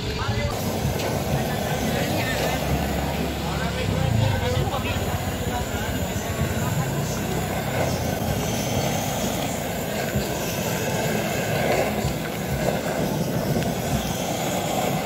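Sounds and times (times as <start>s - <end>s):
blowtorch flame burning: 0.0s - 15.0s.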